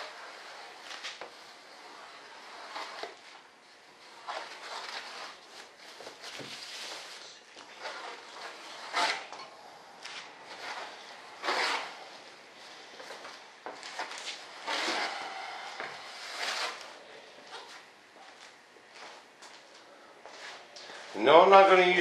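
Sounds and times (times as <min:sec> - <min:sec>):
scraping and rubbing by hand: 0:00.0 - 0:17.9.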